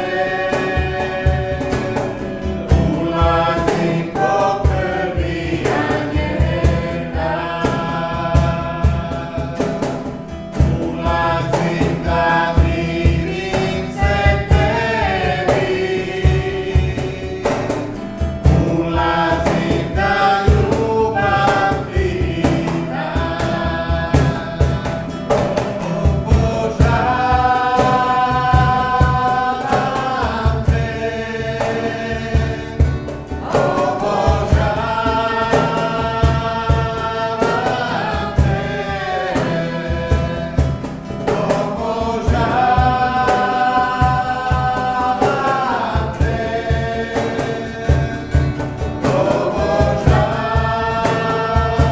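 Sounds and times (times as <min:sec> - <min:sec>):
cajon beat: 0:00.0 - 0:51.9
man and woman singing: 0:00.0 - 0:51.9
strummed acoustic guitar: 0:00.0 - 0:51.9.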